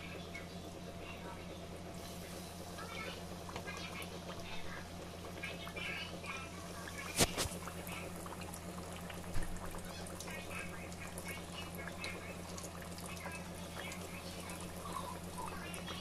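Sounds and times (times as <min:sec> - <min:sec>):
fish frying in hot oil: 0:00.0 - 0:16.0
low steady hum: 0:00.0 - 0:16.0.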